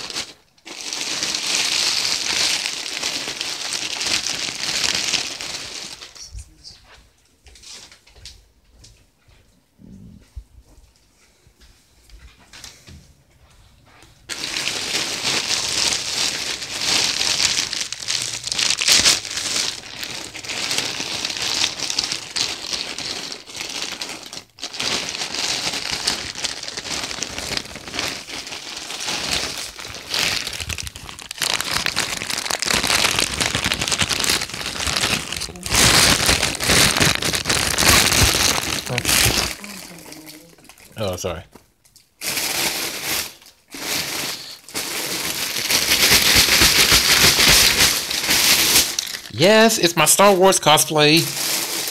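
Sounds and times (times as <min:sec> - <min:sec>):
plastic mailer bag crinkling: 0:00.0 - 0:06.4, 0:14.3 - 0:41.4, 0:42.0 - 0:51.9.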